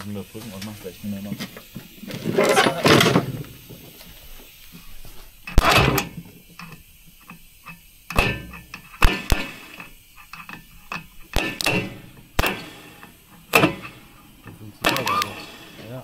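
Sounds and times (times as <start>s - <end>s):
electrical sparking snaps: 0.1s - 16.0s.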